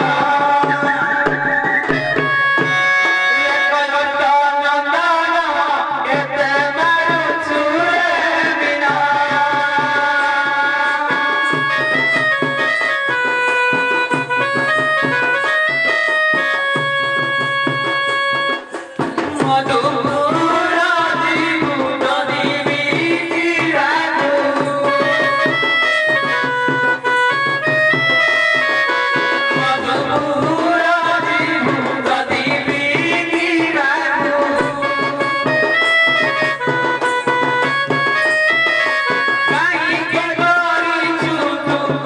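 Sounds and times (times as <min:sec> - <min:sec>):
hand drum rhythm: 0:00.0 - 0:04.2, 0:06.0 - 0:42.0
reed keyboard melody: 0:00.0 - 0:04.4, 0:10.2 - 0:22.8, 0:23.6 - 0:42.0.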